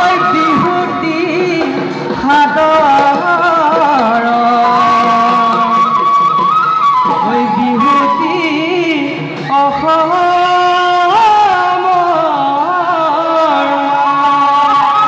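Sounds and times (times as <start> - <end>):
hand-played barrel drums: 0.0 - 15.0
pipe melody: 0.0 - 15.0.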